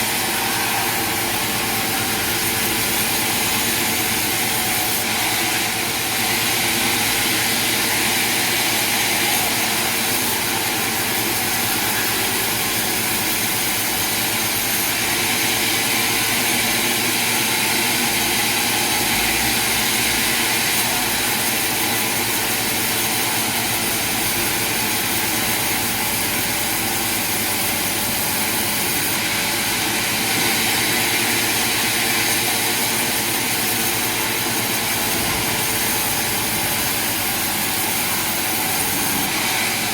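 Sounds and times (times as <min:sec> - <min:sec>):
sawmill machinery whirring: 0:00.0 - 0:39.9.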